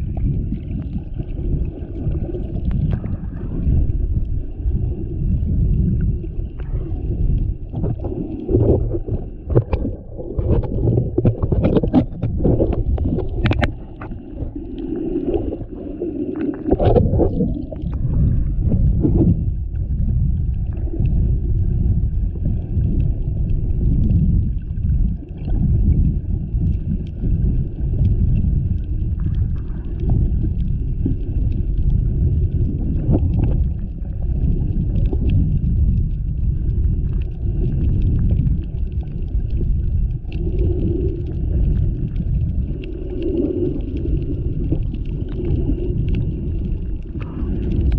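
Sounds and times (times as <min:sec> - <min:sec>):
muffled underwater rumble: 0:00.0 - 0:47.9
water splashes: 0:00.0 - 0:47.9.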